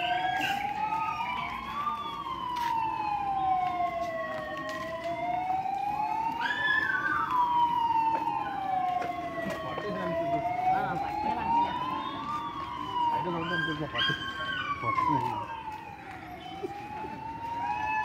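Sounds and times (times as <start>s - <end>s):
fire engine sirens wailing: 0.0s - 18.0s.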